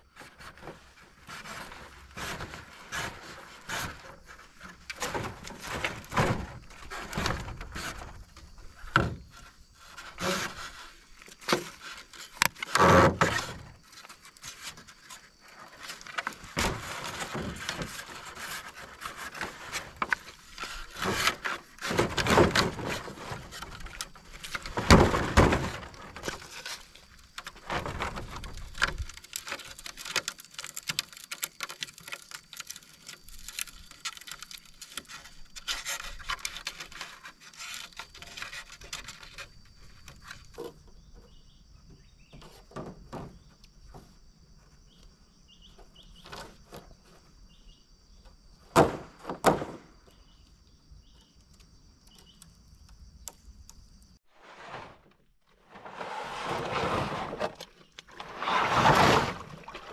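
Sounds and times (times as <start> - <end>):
bamboo poles knocking and scraping: 0.0 - 47.4, 48.2 - 59.9.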